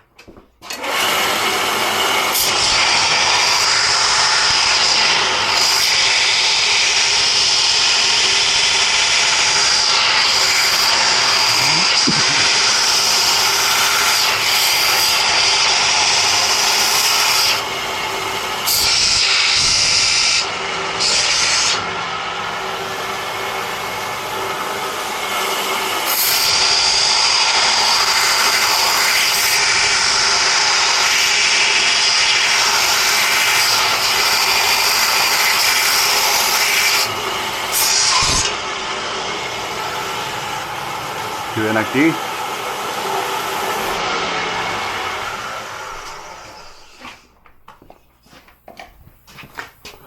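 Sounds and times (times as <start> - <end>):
power sander grinding metal: 0.7 - 47.3.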